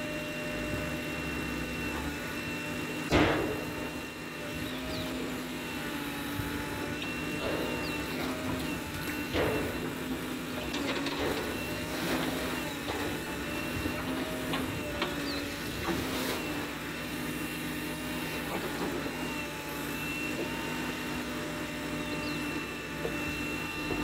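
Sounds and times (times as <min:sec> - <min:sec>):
backhoe engine running: 0:00.0 - 0:24.0.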